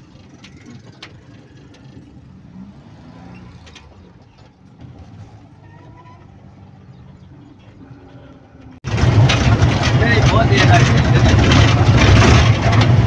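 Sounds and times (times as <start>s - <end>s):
van engine rumble from inside: 0.0s - 2.6s, 3.6s - 13.0s.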